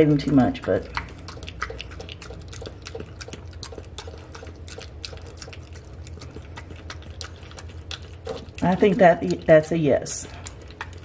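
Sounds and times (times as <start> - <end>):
dog chewing and smacking: 0.0 - 11.0
low steady hum: 0.0 - 11.0.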